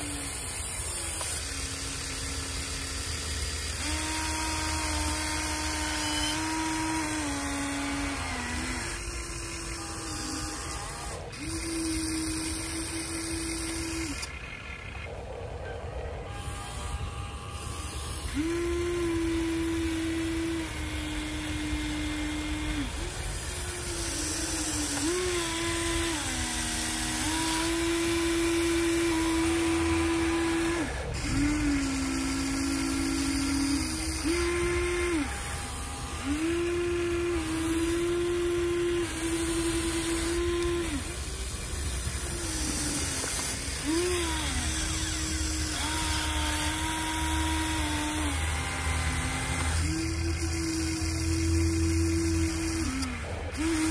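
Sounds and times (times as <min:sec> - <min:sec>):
toy excavator motor whining: 0:00.0 - 0:53.9.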